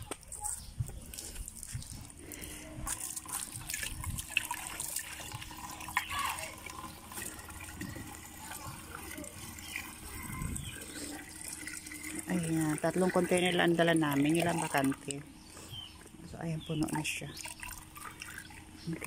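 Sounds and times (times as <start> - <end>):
water pouring into a plastic jug: 1.0 - 15.3, 16.7 - 19.0.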